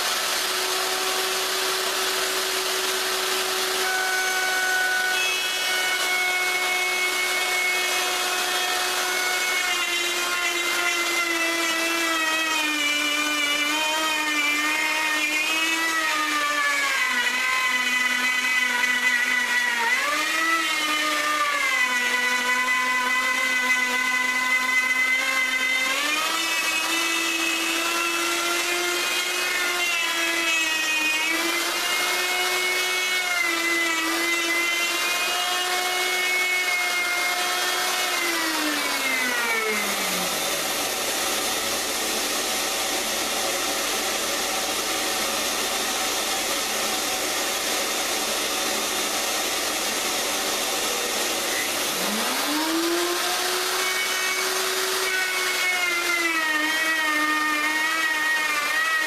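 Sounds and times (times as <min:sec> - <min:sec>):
electric router whining: 0:00.0 - 0:59.0.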